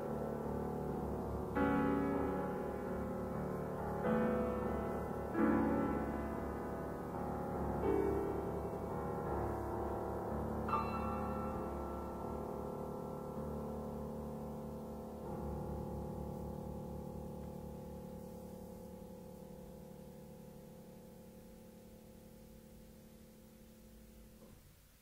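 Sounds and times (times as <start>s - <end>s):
piano playing slow chords: 0.0s - 24.4s.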